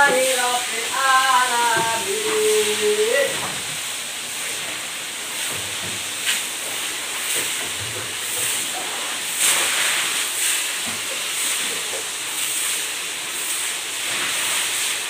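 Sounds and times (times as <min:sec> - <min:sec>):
tofu deep-frying in oil: 0:00.0 - 0:15.0.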